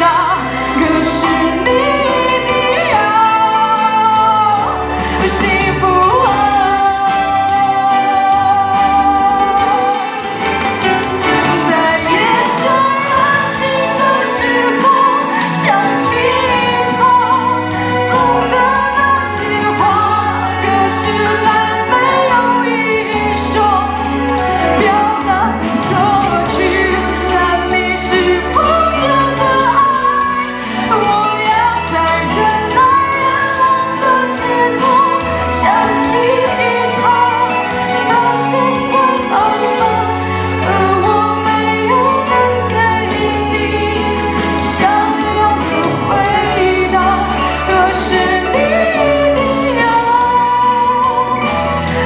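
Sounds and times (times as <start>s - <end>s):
backing track with bass line: 0.0s - 52.0s
woman singing pop song: 0.0s - 52.0s.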